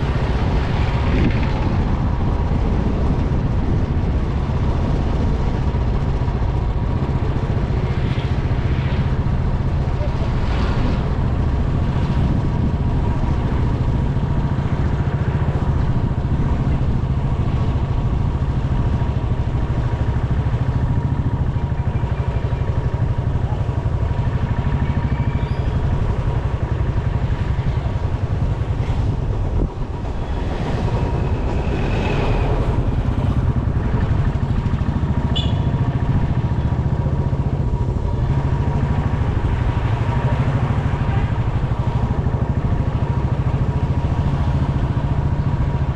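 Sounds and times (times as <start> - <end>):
motorcycle engine rumble: 0.0 - 45.9.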